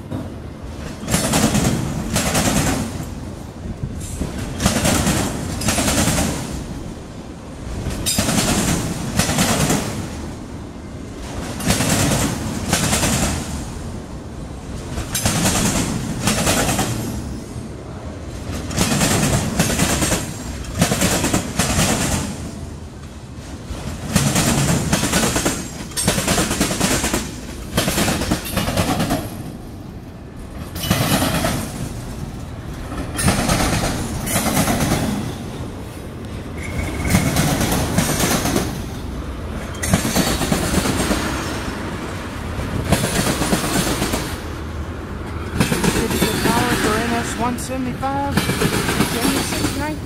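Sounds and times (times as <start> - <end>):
train wheels clattering over rails: 0.0 - 14.0, 14.6 - 17.6, 18.3 - 47.4, 48.3 - 50.0.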